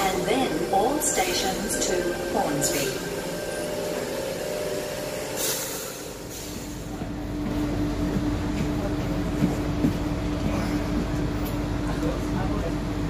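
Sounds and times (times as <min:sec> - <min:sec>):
electric train hum and rumble: 0:00.0 - 0:13.0.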